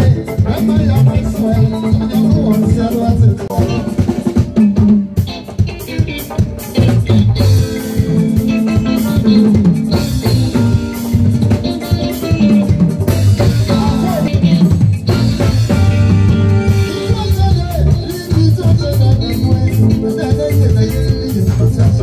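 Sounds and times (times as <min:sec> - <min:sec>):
drum kit beat: 0:00.0 - 0:22.0
live band music: 0:00.0 - 0:22.0.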